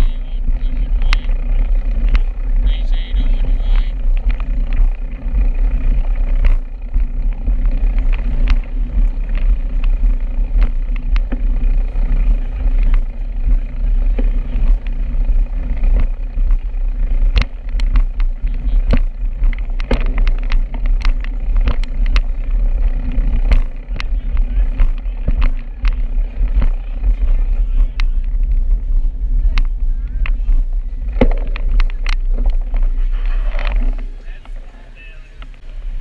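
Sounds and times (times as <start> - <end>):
bicycle clicks and rattles: 0.0 - 36.0
road noise: 0.0 - 36.0
wind noise on microphone: 0.0 - 36.0.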